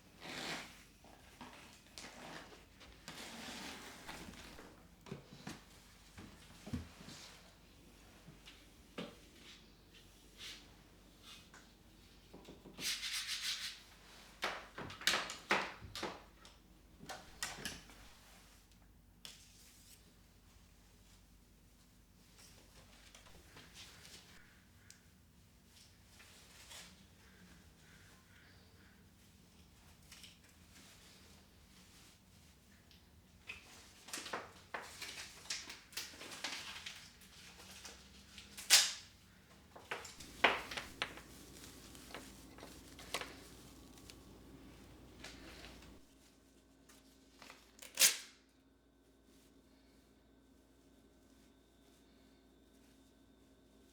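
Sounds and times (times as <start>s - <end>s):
rustling and handling noises: 0.0s - 53.9s.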